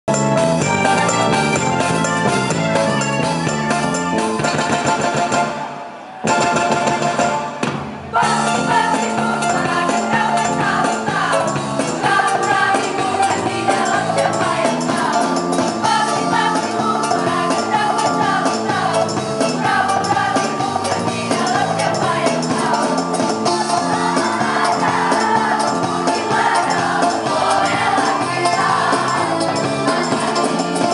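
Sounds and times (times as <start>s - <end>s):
choir singing with instruments: 5.5s - 30.9s.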